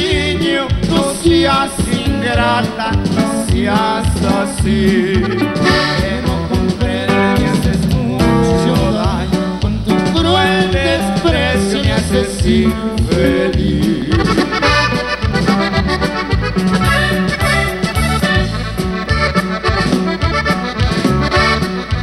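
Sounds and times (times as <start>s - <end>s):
bass: 0.0s - 22.0s
button accordion melody: 0.0s - 22.0s
drums keeping steady beat: 0.0s - 22.0s.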